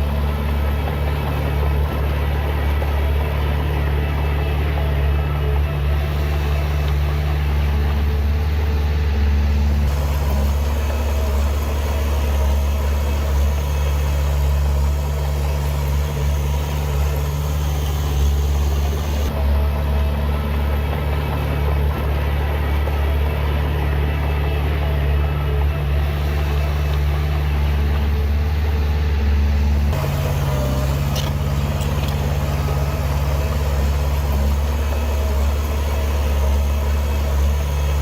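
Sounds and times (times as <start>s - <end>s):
heavy diesel engine humming: 0.0s - 38.0s.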